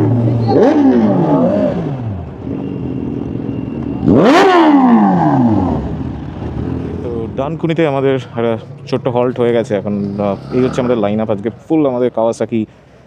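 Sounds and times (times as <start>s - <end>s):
motorcycle engine revving: 0.0s - 11.7s.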